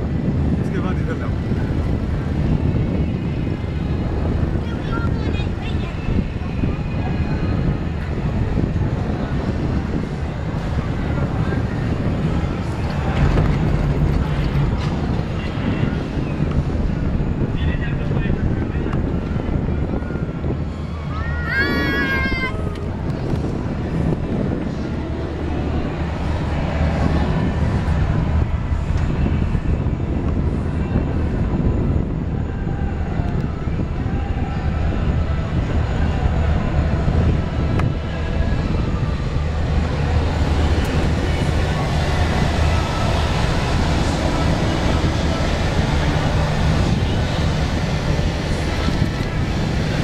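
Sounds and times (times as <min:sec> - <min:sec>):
gondola running along cable: 0:00.0 - 0:50.0
wind buffeting microphone: 0:00.0 - 0:50.0.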